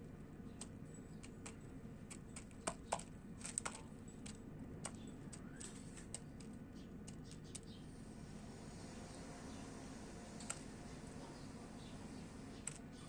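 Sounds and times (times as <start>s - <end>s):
birds pecking and cracking seeds: 0.0s - 13.0s.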